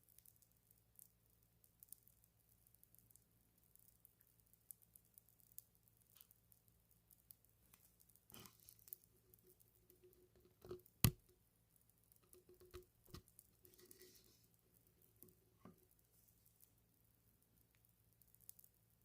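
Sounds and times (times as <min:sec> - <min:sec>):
popping candy crackling: 0:00.0 - 0:19.0.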